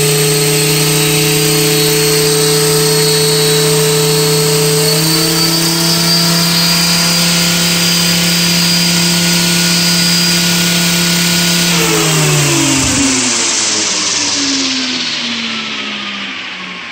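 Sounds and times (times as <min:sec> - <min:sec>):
rc helicopter motor whine: 0:00.0 - 0:16.9.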